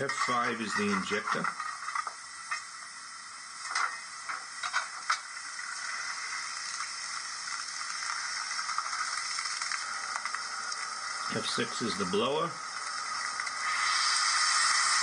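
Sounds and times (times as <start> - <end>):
hiss of steam and water: 0.0 - 15.0.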